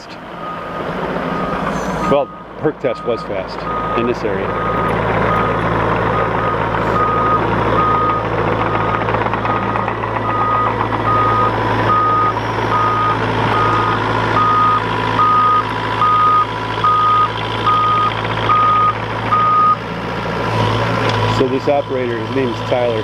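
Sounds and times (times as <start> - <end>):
heavy machine engine hum: 0.0 - 23.0
backup alarm beeping: 0.4 - 19.8.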